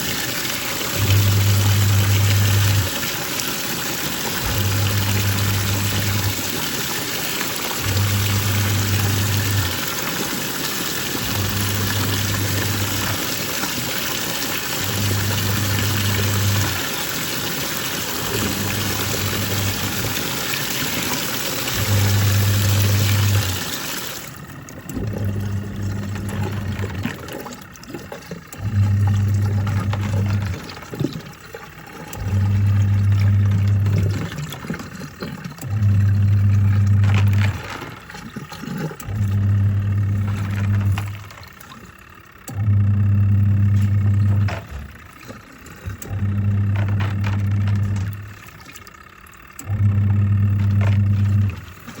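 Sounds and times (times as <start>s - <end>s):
water rushing and churning: 0.0s - 41.9s
washing machine motor humming: 0.0s - 52.0s.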